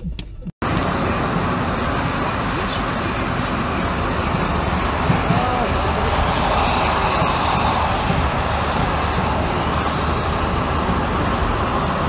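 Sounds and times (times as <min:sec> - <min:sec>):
car road noise: 0:00.6 - 0:12.0.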